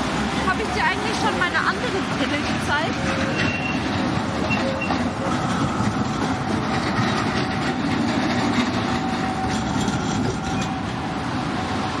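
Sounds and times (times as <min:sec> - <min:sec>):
tram wheels rumbling on rails: 0:00.0 - 0:12.0
wheels clicking over rail joints: 0:00.0 - 0:12.0.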